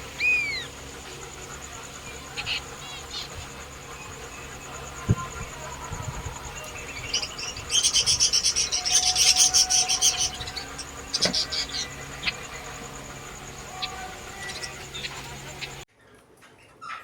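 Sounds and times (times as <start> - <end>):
lovebirds chirping: 0.0 - 15.9.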